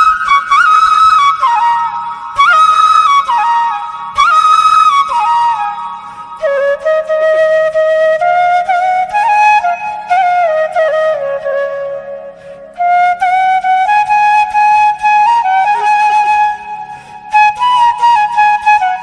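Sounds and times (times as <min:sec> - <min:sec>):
solo flute melody: 0:00.0 - 0:19.0.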